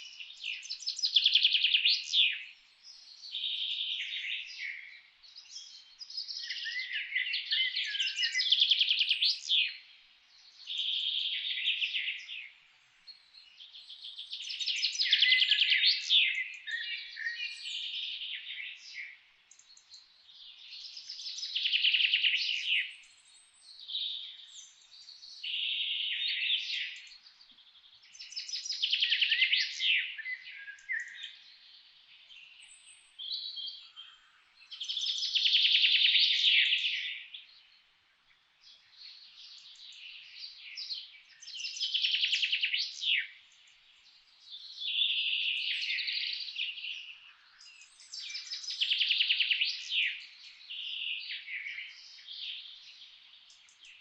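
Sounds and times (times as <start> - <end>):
songbirds trilling and chirping: 0.0 - 54.0.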